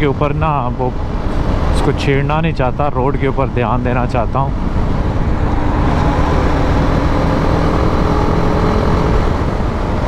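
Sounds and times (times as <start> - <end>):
motorcycle engine drone: 0.0 - 10.0
wind and road rumble: 0.0 - 10.0.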